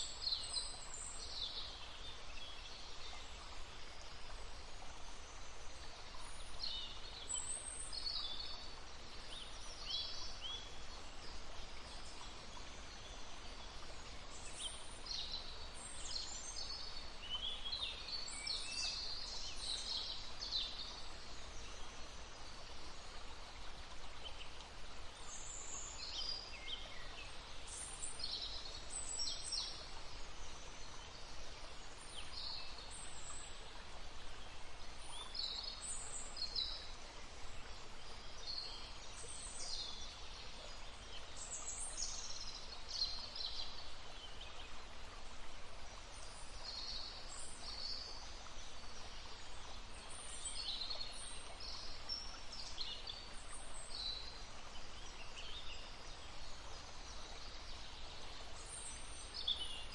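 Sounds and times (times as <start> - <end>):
babbling stream: 0.0 - 59.9.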